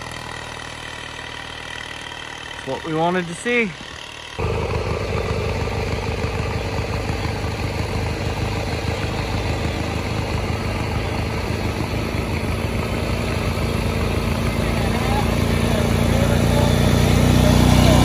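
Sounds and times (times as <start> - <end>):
riding lawnmower engine running: 0.0 - 18.0.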